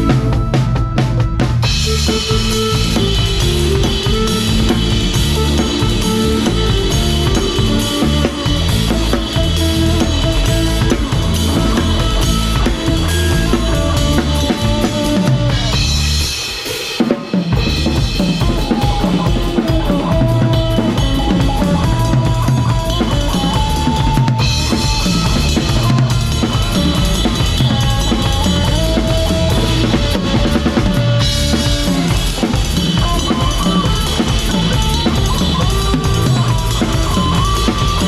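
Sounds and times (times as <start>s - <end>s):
drum kit: 0.0s - 38.0s
live band playing cha-cha: 0.0s - 38.0s.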